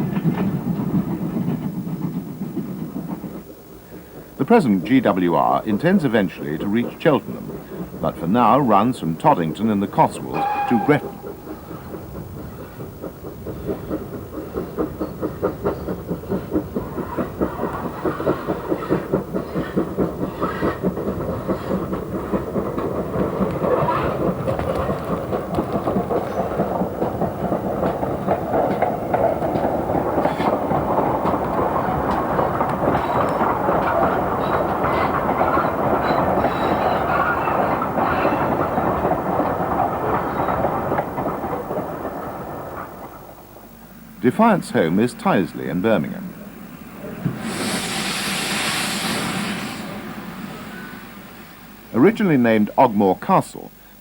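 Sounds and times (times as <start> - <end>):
train rumbling and clattering past: 0.0 - 53.9
steam locomotive exhaust beats: 0.0 - 54.0.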